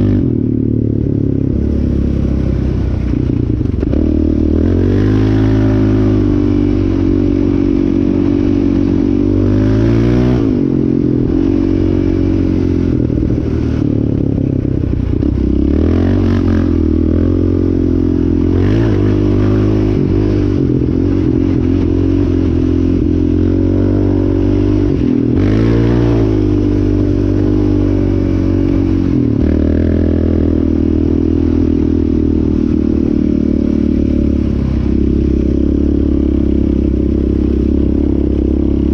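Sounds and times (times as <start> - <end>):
engine revving under throttle: 0.0 - 38.9.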